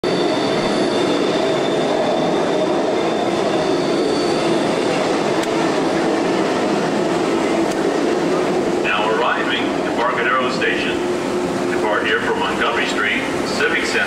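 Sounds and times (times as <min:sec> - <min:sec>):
train rolling rumble: 0:00.0 - 0:14.0.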